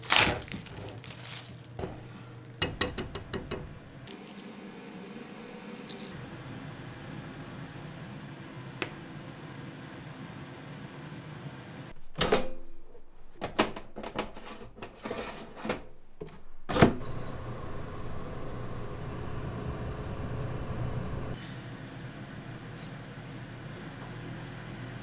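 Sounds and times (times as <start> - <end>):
oven humming: 0.0 - 13.3, 15.6 - 25.0.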